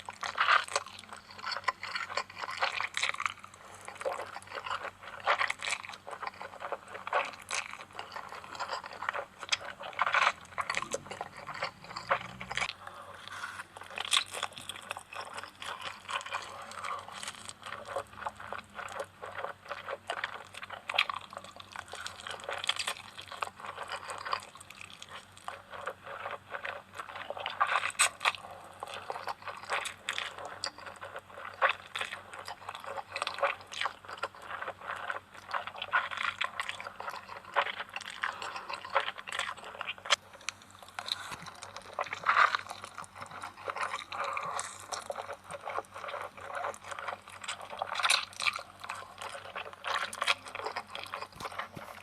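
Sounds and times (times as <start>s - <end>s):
wet chewing: 0.0s - 52.0s.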